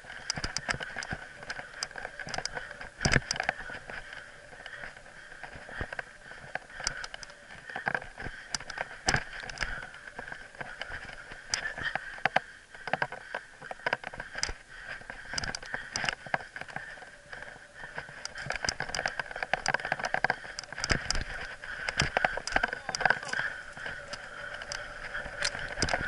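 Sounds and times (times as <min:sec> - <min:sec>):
bike rattles and knocks: 0:00.0 - 0:26.0.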